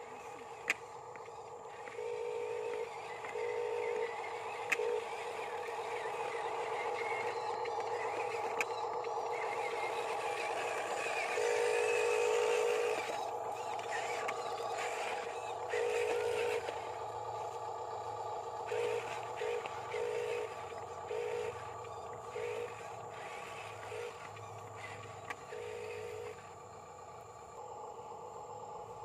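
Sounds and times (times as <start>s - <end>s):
small electric motors whining: 0.0s - 29.0s.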